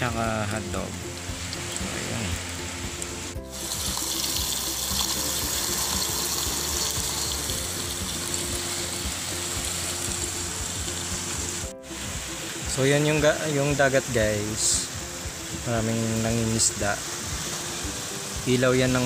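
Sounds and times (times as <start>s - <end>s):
food sizzling in oil: 1.0s - 19.0s.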